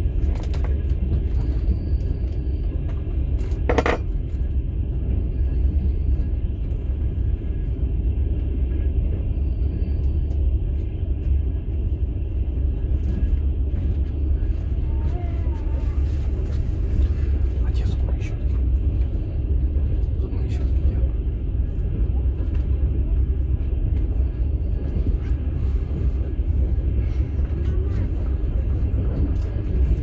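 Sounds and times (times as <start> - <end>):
train rumbling inside carriage: 0.0 - 30.0.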